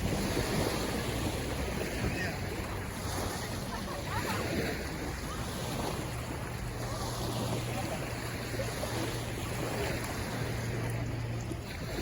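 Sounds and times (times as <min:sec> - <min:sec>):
sea waves washing at shore: 0:00.0 - 0:12.0
wind on microphone: 0:00.0 - 0:12.0.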